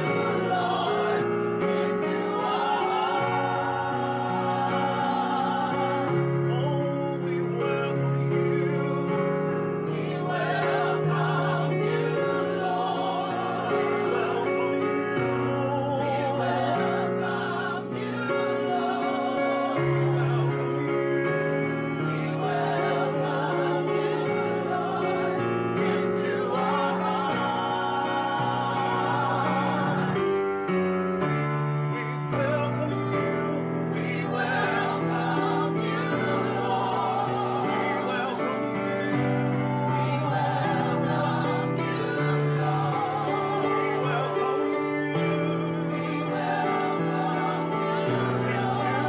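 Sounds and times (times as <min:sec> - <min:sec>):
gospel group singing in harmony: 0:00.0 - 0:49.0.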